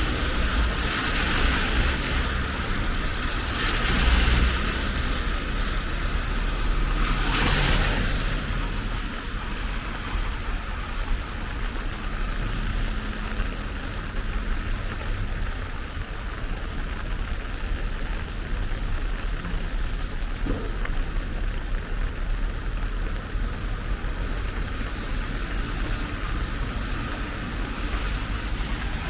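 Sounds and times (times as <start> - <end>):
steady rain hiss: 0.0 - 29.0
traffic rumble: 0.0 - 29.0.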